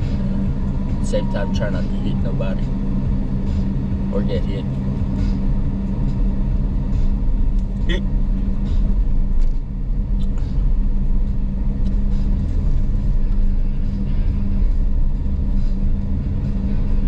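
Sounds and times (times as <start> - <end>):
car engine and road rumble: 0.0 - 17.0
constant low hum: 0.0 - 17.0.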